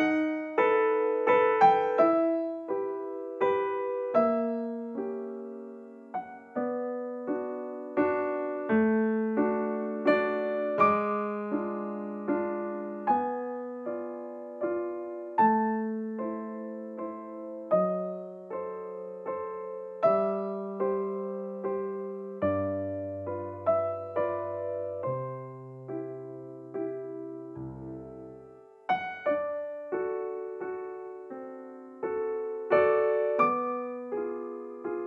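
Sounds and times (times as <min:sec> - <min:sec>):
gentle piano piece: 0:00.0 - 0:35.0.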